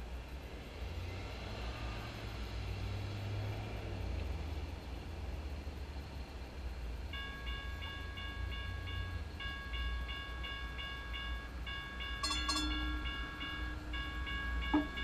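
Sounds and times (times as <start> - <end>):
train humming at platform: 0.0 - 15.0.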